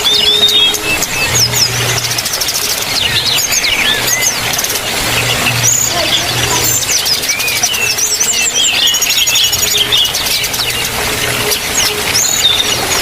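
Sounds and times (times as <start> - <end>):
low hum: 0.0 - 13.0
small birds chirping: 0.0 - 13.0.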